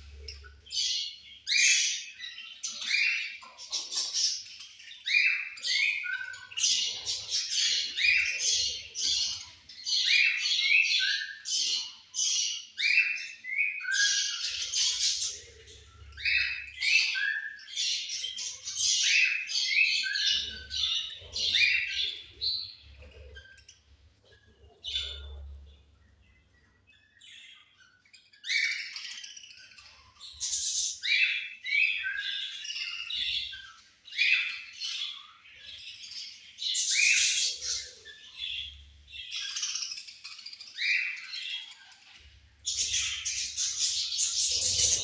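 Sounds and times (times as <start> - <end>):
budgerigars chirping and squawking: 0.0 - 45.0.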